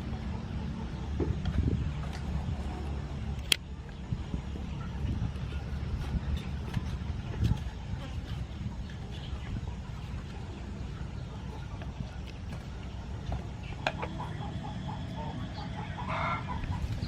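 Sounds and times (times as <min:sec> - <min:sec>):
chickens clucking: 0:00.0 - 0:17.0
steady low rumble: 0:00.0 - 0:17.0.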